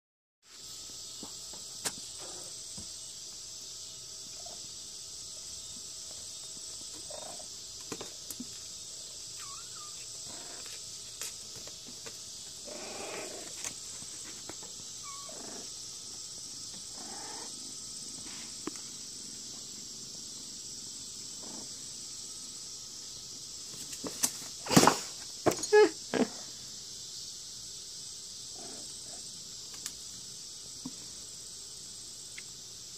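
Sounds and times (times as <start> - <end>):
steady high hiss: 0.4 - 32.9.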